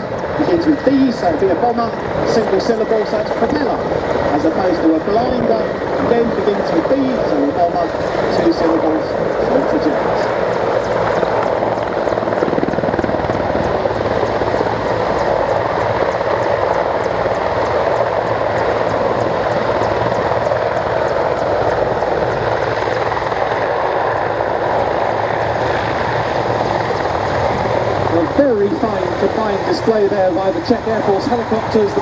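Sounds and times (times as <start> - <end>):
helicopters flying: 0.0 - 32.0.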